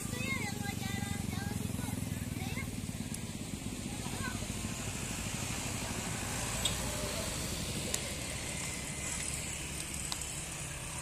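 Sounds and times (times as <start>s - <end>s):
distant jet engines running: 0.0s - 11.0s.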